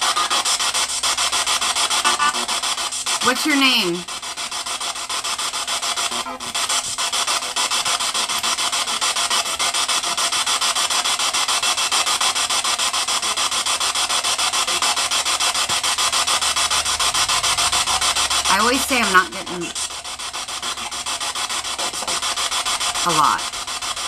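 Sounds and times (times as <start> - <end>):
pulsing radio static: 0.0 - 24.0.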